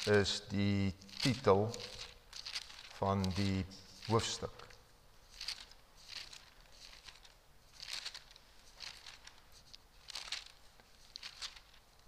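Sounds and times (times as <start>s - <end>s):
book pages rustling: 0.0s - 12.0s.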